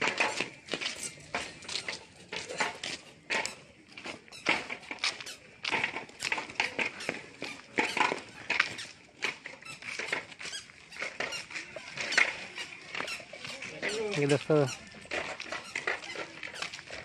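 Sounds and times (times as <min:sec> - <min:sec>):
footsteps on gritty concrete: 0:00.0 - 0:17.0.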